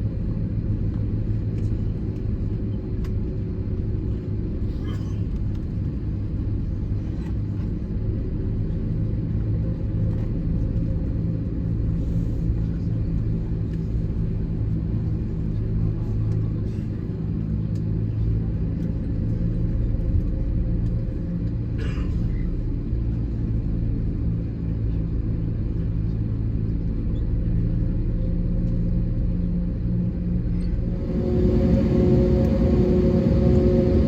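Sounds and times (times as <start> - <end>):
airplane cabin rumble: 0.0 - 34.0.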